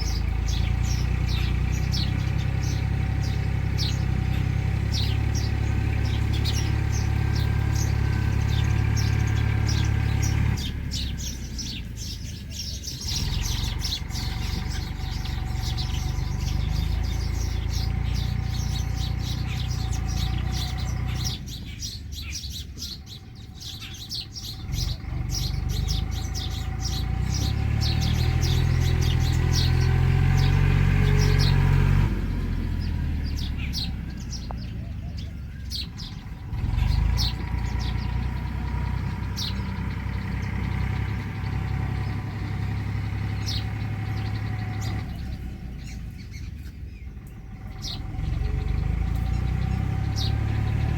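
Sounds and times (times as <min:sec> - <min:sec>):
low motor hum: 0:00.0 - 0:50.9
small birds chirping: 0:00.0 - 0:50.9.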